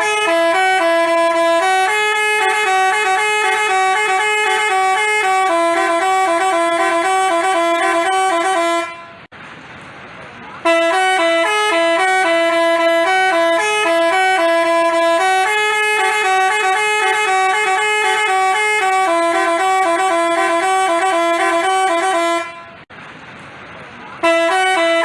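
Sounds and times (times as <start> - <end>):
multi-tone air horn melody: 0.0 - 9.3, 10.6 - 22.9, 24.2 - 25.0.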